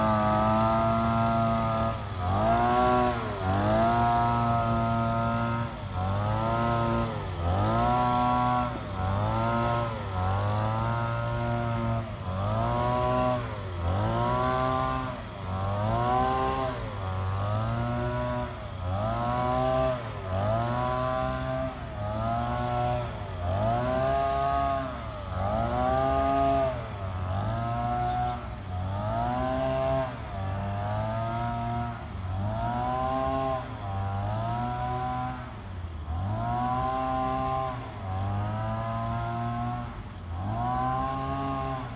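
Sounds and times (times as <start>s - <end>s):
cutting machine engine under load: 0.0s - 41.9s.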